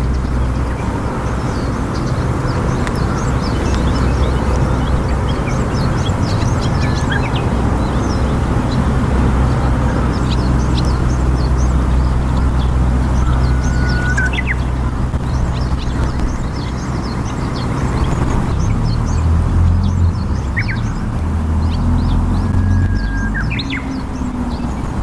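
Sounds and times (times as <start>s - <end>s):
low rumble: 0.0s - 25.0s
small birds chirping: 0.0s - 25.0s.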